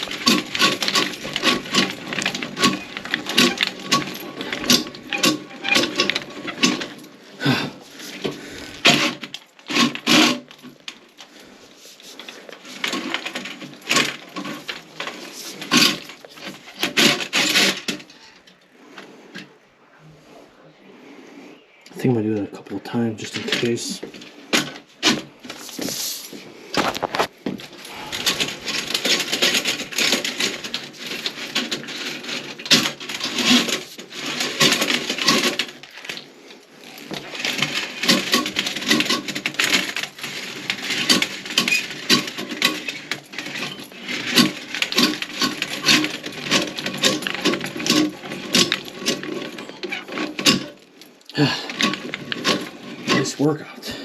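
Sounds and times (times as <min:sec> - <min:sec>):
tool scraping and clinking in toilet: 0:00.0 - 0:10.9, 0:11.9 - 0:18.5, 0:22.9 - 0:36.3, 0:36.9 - 0:54.0.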